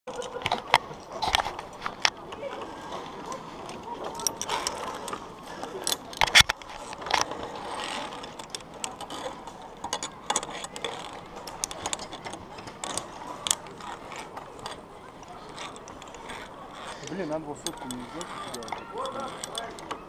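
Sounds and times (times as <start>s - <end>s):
climbing gear metallic clicks: 0.1s - 20.0s.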